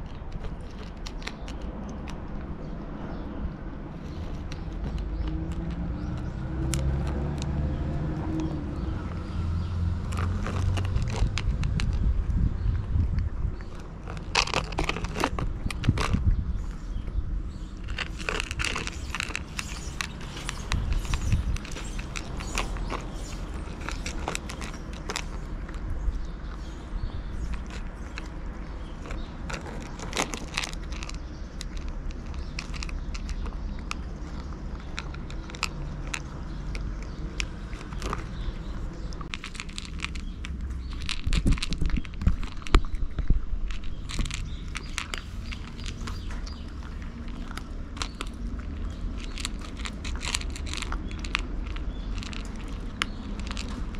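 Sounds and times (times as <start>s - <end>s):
cat crunching food: 0.0s - 53.9s.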